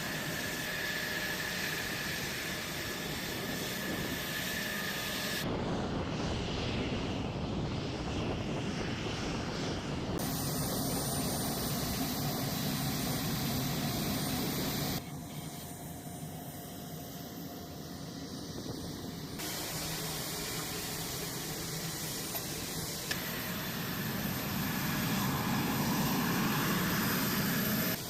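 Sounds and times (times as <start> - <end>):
jet aircraft engine noise: 0.0 - 28.0.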